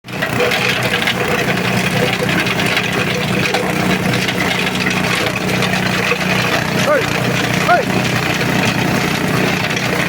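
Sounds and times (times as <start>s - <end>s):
grinding machine humming and rattling: 0.0s - 10.0s.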